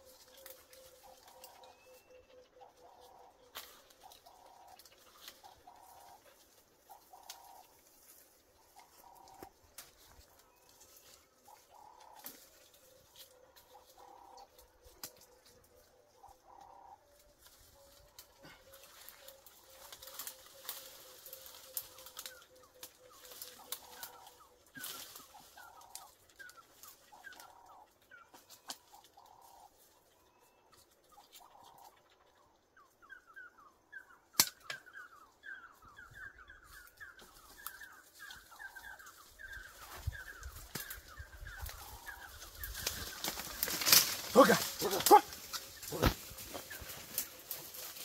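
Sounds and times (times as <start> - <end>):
birds chirping: 0.0 - 48.0
branches cracking and rustling: 0.0 - 48.0.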